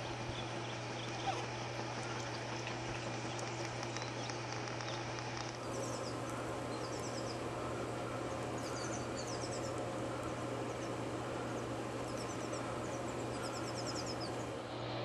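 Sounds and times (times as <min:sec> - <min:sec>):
low hum under hiss: 0:00.0 - 0:15.0.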